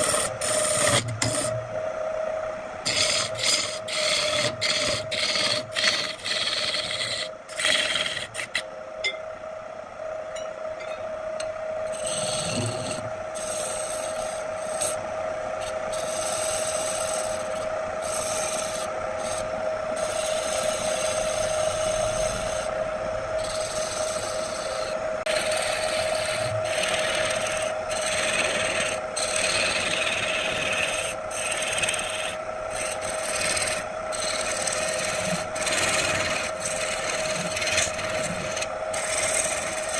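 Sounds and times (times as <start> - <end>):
wood lathe humming: 0.0 - 1.5, 2.8 - 8.6, 11.8 - 15.0, 15.6 - 39.9
gouge cutting spinning wood: 0.0 - 1.6, 2.8 - 8.6, 11.9 - 15.0, 15.6 - 22.8, 23.4 - 39.9.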